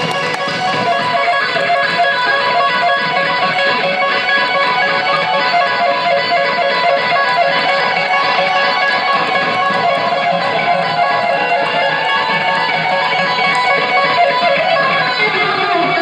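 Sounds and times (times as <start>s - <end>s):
electric guitar solo: 0.0s - 16.0s.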